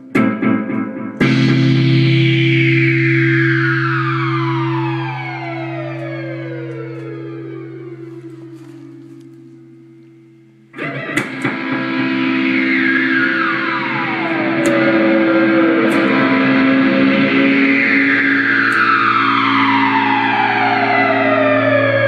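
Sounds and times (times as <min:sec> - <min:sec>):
electric guitar with effects: 0:00.0 - 0:22.0.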